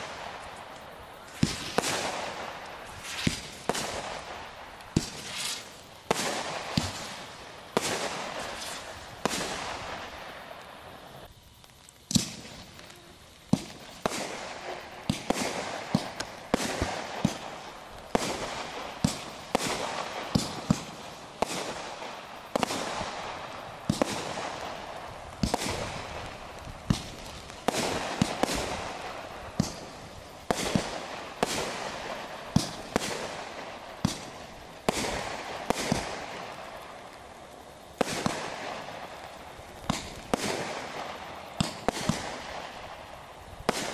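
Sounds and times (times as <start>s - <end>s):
fireworks launch reports: 0.0s - 43.9s
hiss of burning stars: 0.0s - 43.9s.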